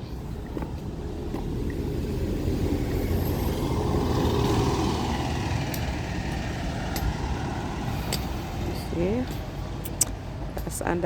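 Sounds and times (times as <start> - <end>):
vehicle passing by: 0.0 - 10.6.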